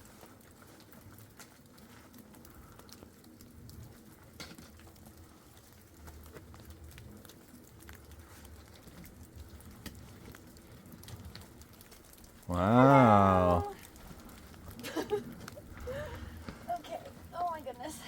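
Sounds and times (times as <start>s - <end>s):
raindrops pattering: 0.0s - 18.0s
low wind rumble: 1.7s - 18.0s.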